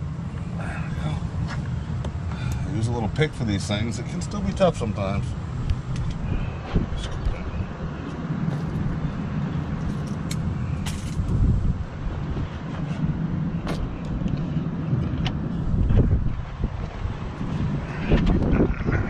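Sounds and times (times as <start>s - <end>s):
motor vehicle rumble: 0.0s - 19.0s.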